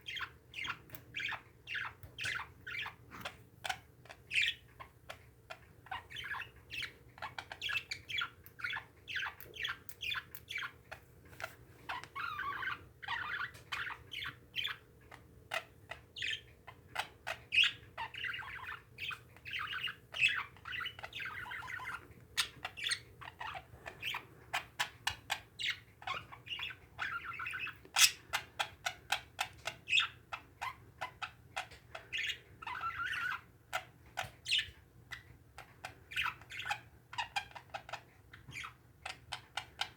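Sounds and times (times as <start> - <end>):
parakeets chattering: 0.0 - 39.9.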